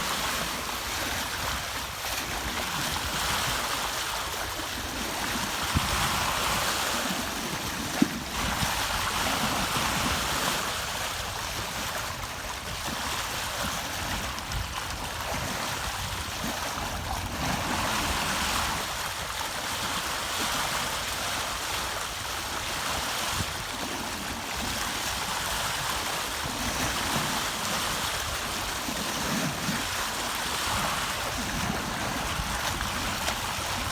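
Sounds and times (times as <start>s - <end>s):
water rushing along a hull: 0.0s - 33.9s.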